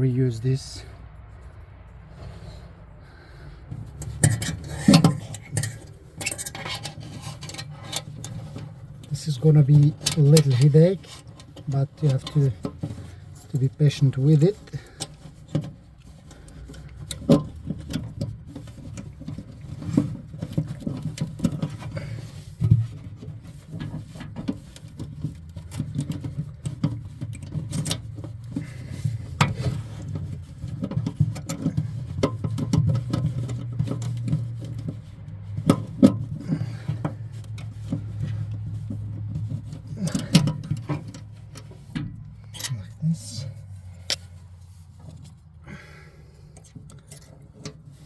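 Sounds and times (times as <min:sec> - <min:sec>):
metal brackets clicking and scraping: 0:00.0 - 0:48.0.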